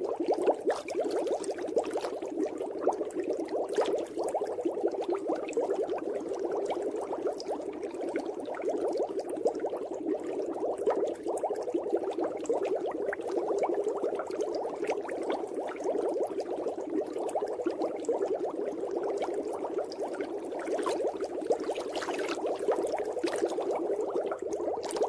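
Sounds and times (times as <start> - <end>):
water bubbling: 0.0 - 25.0.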